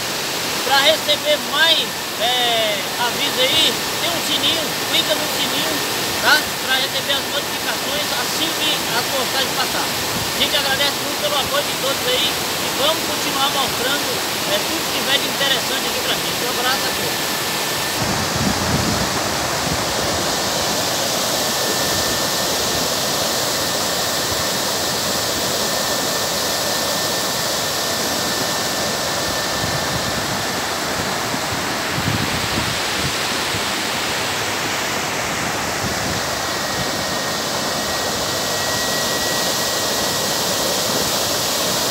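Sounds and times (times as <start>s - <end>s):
water rushing over dam spillway: 0.0s - 41.9s.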